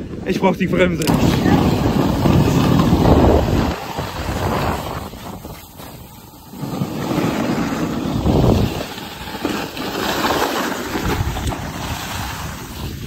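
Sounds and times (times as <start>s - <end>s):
wind buffeting microphone: 0.0s - 9.4s, 10.8s - 13.0s
sled scraping over snow: 0.2s - 13.0s.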